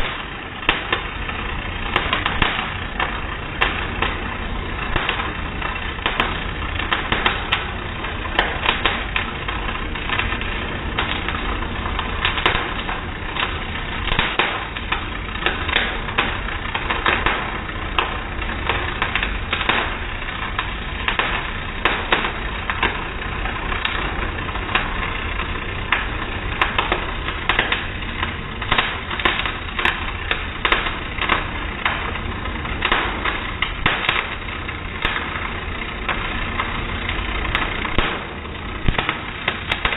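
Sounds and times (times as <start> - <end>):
arc welding crackle: 0.0 - 39.9.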